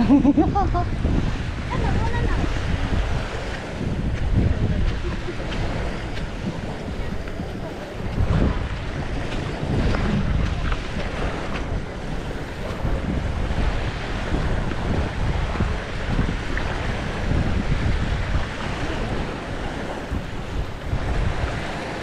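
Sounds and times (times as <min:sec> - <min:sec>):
sea surf washing: 0:00.0 - 0:22.0
wind buffeting microphone: 0:00.0 - 0:22.0.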